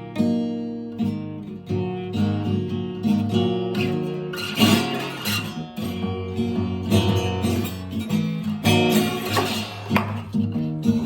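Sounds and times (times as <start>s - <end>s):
acoustic guitar strumming blues: 0.0s - 11.0s.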